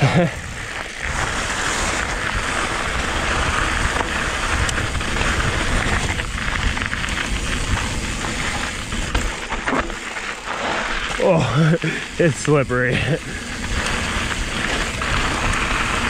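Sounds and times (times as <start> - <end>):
wind rumbling on microphone: 0.0 - 11.2, 11.8 - 16.0
bike tyres crunching on gravel: 0.0 - 16.0.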